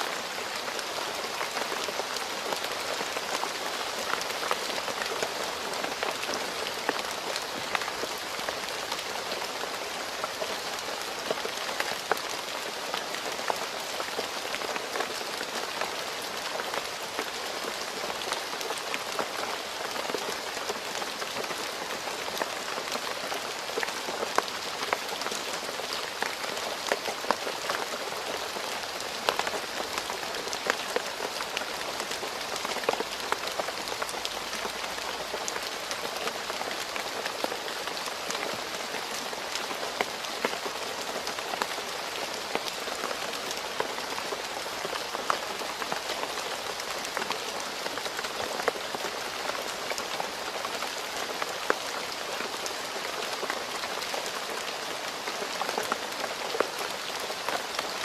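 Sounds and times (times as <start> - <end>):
steady rain on a road: 0.0 - 58.0.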